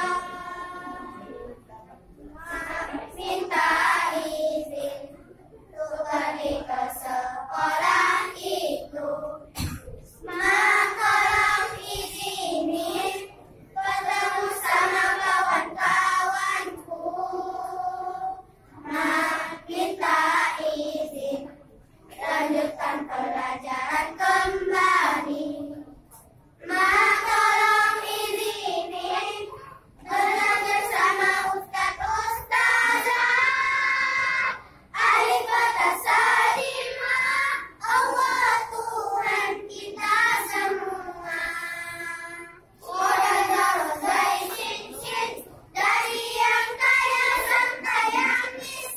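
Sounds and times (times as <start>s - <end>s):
children's choir singing: 0.0s - 48.9s.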